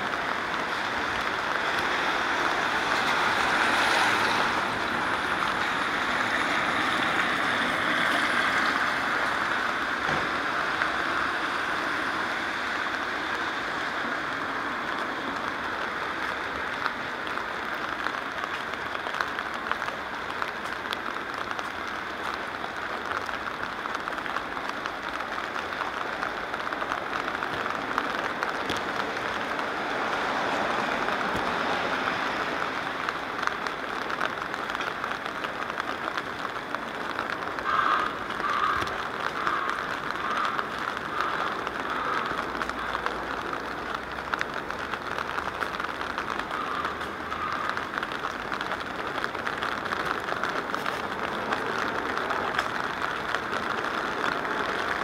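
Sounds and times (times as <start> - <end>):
rain pattering on cover: 0.0 - 55.0
wet street hiss: 0.0 - 55.0.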